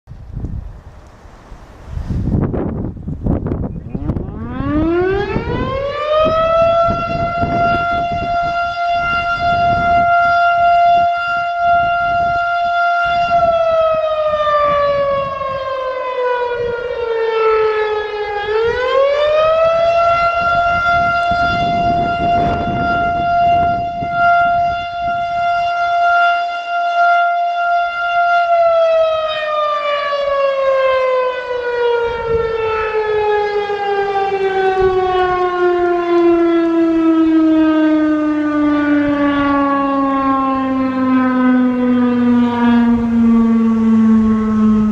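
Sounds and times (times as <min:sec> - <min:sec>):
tornado siren winding: 0:03.4 - 0:44.9.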